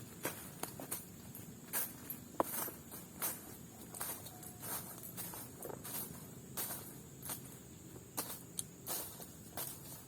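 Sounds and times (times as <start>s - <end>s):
footsteps crunching on forest litter: 0.0s - 10.0s.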